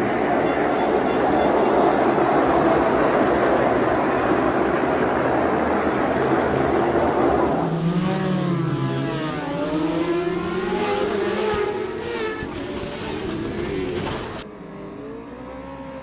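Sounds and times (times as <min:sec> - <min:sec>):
racing motorcycles revving and passing: 0:00.0 - 0:16.0.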